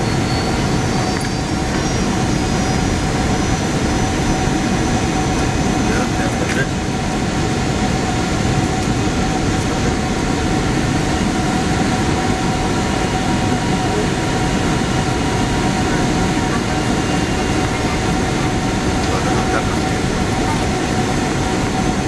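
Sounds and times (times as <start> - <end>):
jet engine cabin rush: 0.0 - 22.0.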